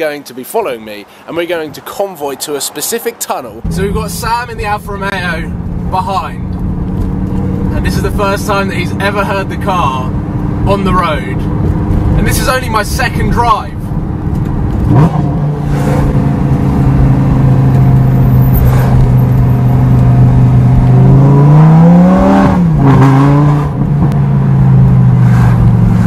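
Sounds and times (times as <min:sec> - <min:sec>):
sports car engine revving: 0:03.6 - 0:12.4, 0:13.8 - 0:26.0.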